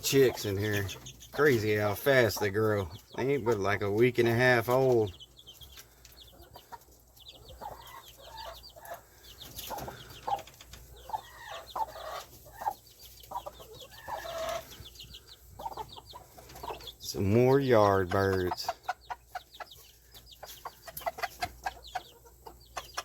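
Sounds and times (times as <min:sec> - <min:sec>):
chicks peeping: 0:00.0 - 0:23.0
hen clucking: 0:00.0 - 0:23.0.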